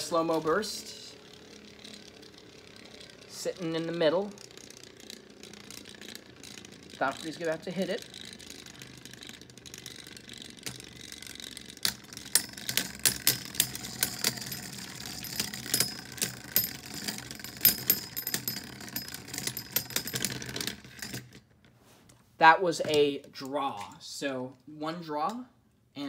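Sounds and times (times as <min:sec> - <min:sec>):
spinning tops clicking together: 0:00.0 - 0:21.3
spinning tops whirring: 0:00.0 - 0:21.5.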